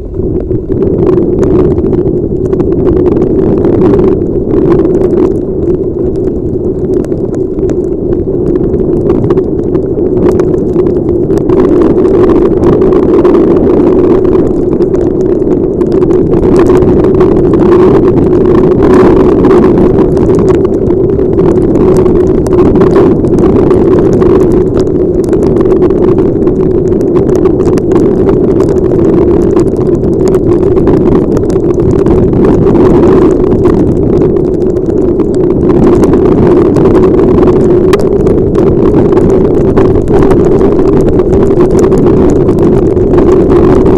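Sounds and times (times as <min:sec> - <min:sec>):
muffled wind rush: 0:00.0 - 0:43.9
rain taps: 0:00.4 - 0:43.9.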